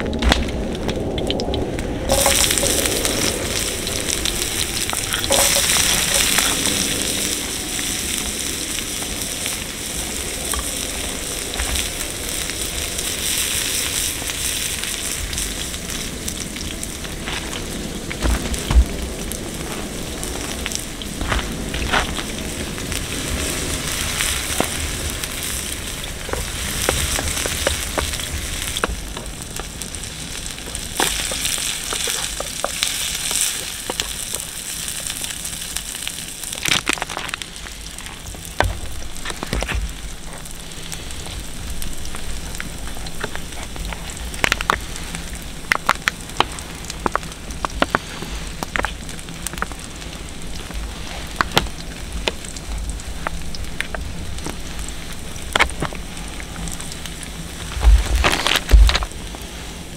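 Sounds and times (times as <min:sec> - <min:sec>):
fire crackling and popping: 0:00.0 - 0:59.9
steady hiss of fire: 0:00.0 - 0:59.9.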